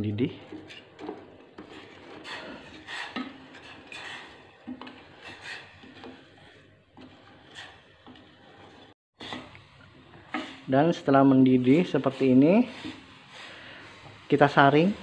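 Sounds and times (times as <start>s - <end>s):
wooden spatula scraping pot: 0.0s - 15.0s.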